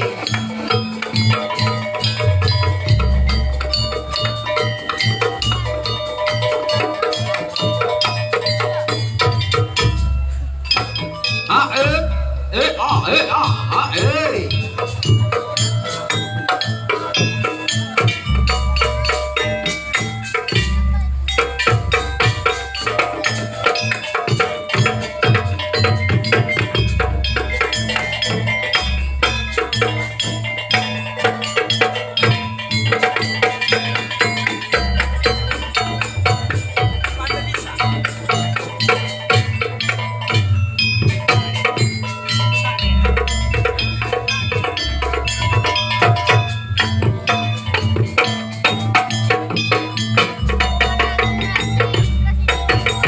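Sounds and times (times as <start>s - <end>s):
drums: 0.0s - 53.0s
percussion ensemble playing: 0.0s - 53.0s.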